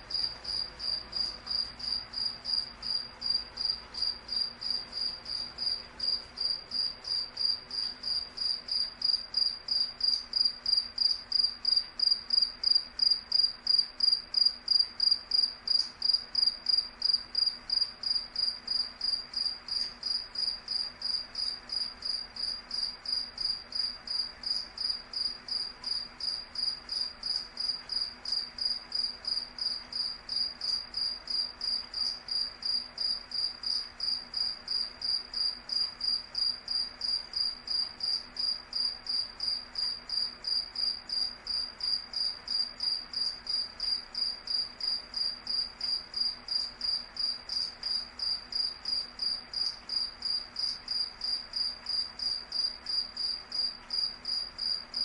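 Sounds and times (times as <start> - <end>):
cricket chirping: 0.1 - 55.0.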